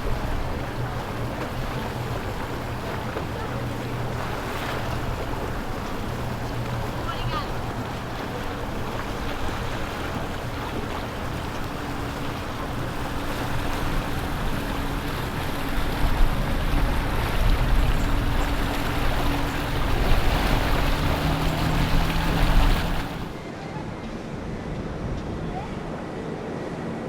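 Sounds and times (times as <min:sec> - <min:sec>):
boat motor humming: 0:00.0 - 0:23.4
rushing water: 0:00.0 - 0:23.4.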